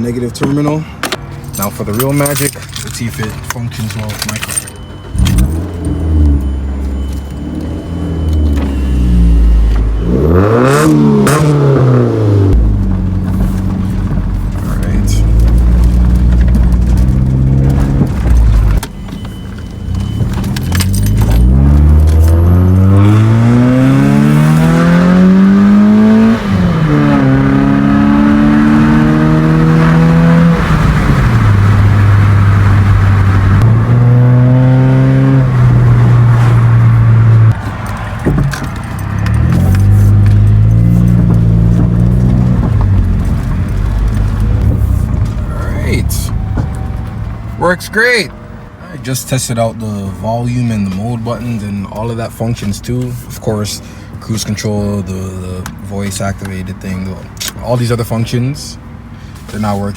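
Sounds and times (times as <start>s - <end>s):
car engine starting and revving: 3.7s - 18.8s, 19.8s - 58.7s.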